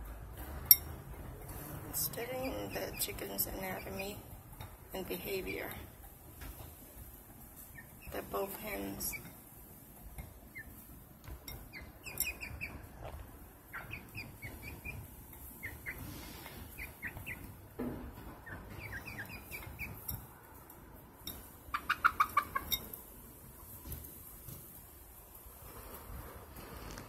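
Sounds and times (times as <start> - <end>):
hens peeping and clucking: 0.0 - 26.1
beaks pecking feed bowl: 0.3 - 24.1.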